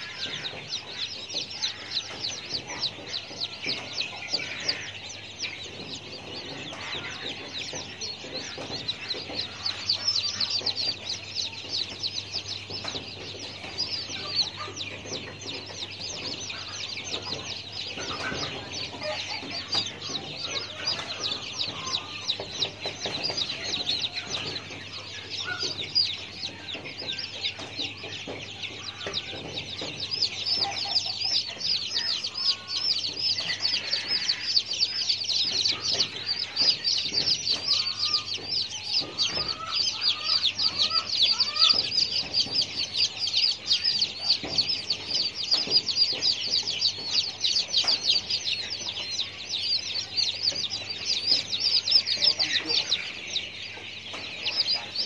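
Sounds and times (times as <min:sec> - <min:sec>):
many birds chirping: 0:00.0 - 0:55.0.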